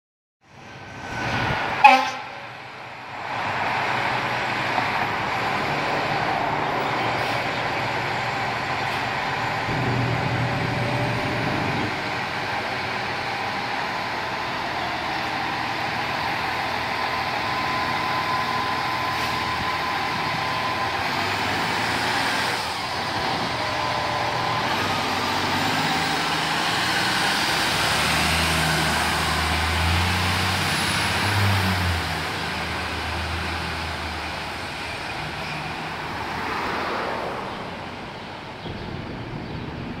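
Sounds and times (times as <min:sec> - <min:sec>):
street traffic: 0:00.4 - 0:40.0
diesel truck engine driving off: 0:03.0 - 0:40.0.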